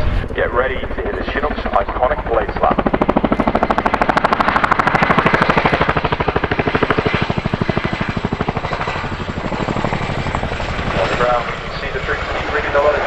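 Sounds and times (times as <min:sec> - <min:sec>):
helicopter rotor blade slap: 0:00.0 - 0:13.0.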